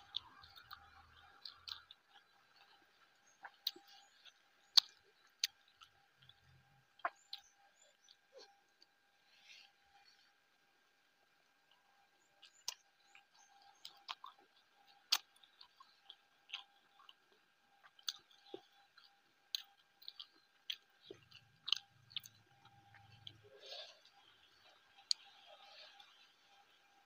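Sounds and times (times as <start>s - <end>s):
faint chewing: 0.0s - 27.0s.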